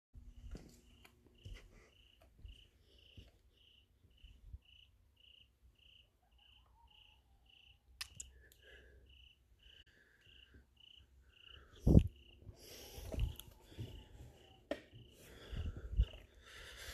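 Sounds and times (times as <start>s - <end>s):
cricket chirping: 0.9s - 16.9s.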